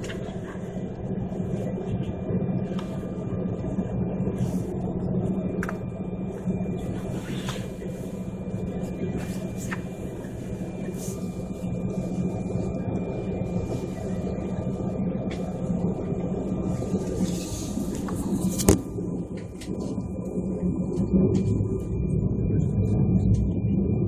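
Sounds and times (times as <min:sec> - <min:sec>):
faint whining tones: 0:00.0 - 0:24.0
vehicle cabin drone: 0:00.0 - 0:24.0.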